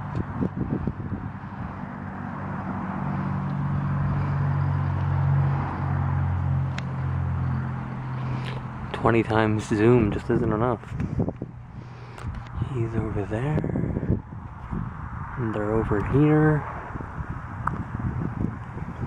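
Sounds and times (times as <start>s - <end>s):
low engine hum: 0.0s - 19.0s
outdoor background noise: 0.0s - 19.0s.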